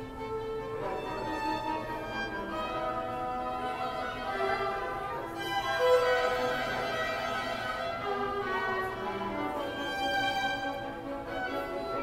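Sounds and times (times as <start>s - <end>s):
two violins playing: 0.0s - 12.0s.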